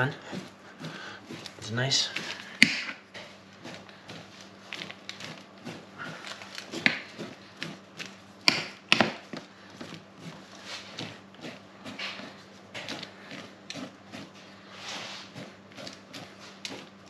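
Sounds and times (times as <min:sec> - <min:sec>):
blade scratching dough: 0:00.0 - 0:17.0.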